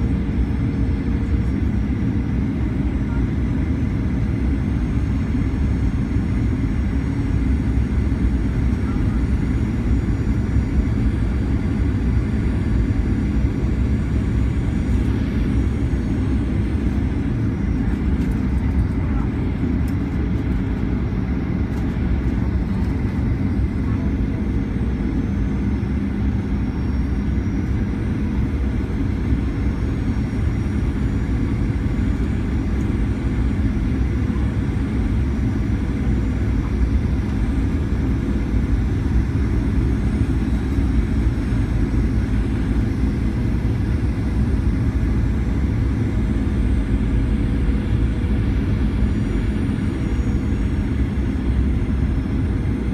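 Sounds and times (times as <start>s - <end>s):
airflow over fuselage: 0.0s - 52.9s
jet engines rumbling: 0.0s - 52.9s.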